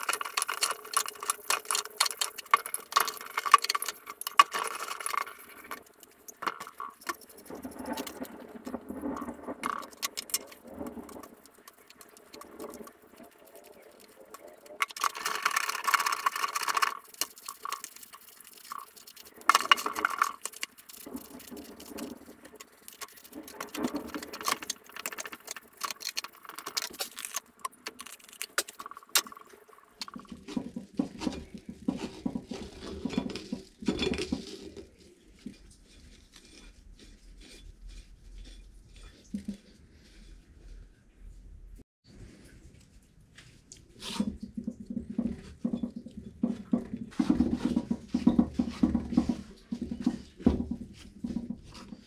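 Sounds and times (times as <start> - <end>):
scraping and rubbing on metal: 0.0 - 41.4, 42.2 - 52.0.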